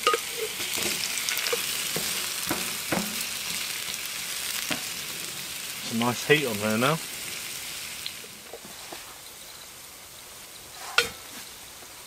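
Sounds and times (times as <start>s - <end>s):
potatoes frying in oil: 0.0s - 12.0s.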